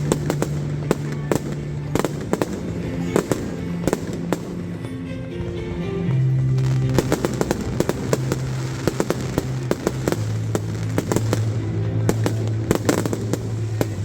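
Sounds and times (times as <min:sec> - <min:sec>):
fireworks bangs and crackling: 0:00.0 - 0:05.5, 0:06.1 - 0:14.0.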